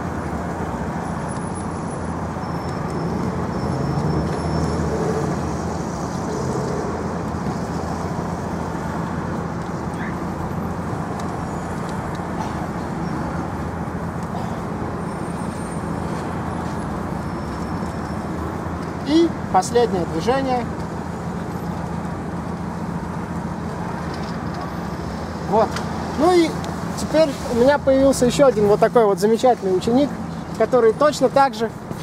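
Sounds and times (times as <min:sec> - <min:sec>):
road traffic passing cars: 0:00.0 - 0:32.0.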